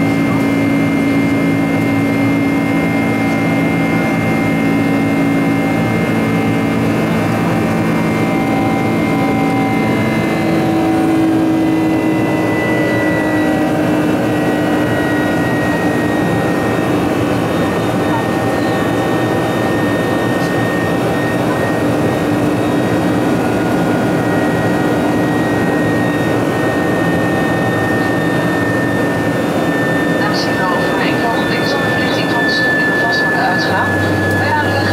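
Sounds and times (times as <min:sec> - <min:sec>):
jet engine roar in cabin: 0:00.0 - 0:34.9.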